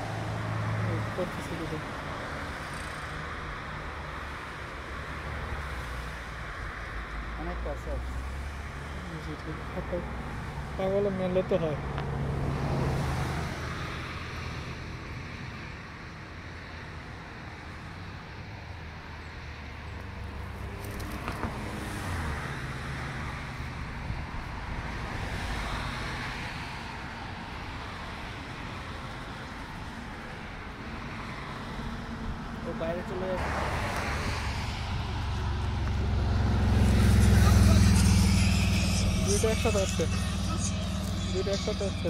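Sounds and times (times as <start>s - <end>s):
low rumble of traffic: 0.0s - 42.0s.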